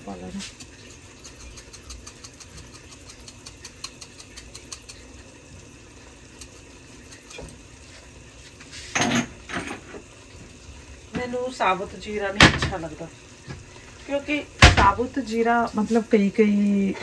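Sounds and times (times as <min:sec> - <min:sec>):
food crackling in a pot: 0:00.0 - 0:17.0.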